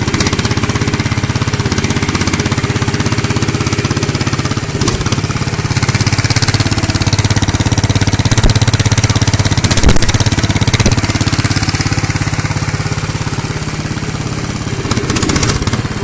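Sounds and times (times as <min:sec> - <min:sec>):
model excavator pulsing machine sound: 0:00.0 - 0:16.0.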